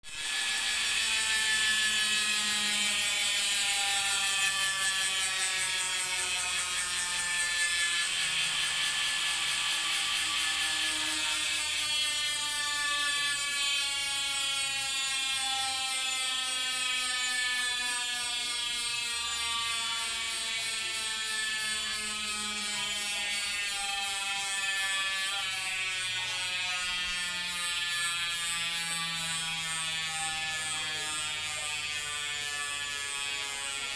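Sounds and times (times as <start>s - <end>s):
bicycle hub ratchet buzzing: 0.1s - 33.9s.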